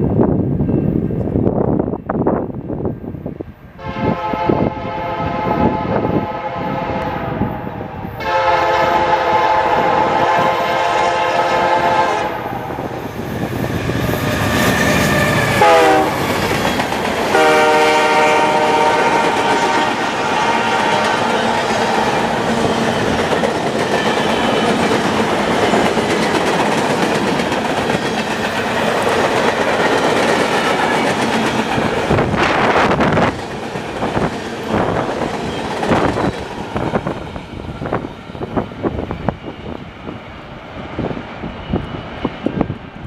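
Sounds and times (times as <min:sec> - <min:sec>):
freight train wheels clacking: 0:08.2 - 0:43.0.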